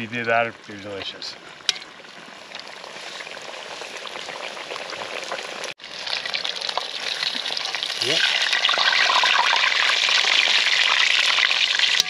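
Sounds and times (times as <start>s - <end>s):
fish frying in hot oil: 1.6s - 12.0s.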